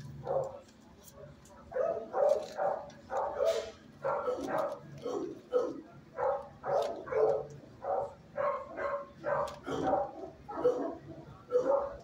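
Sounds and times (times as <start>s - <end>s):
dog barking: 0.2s - 0.6s, 1.7s - 12.0s.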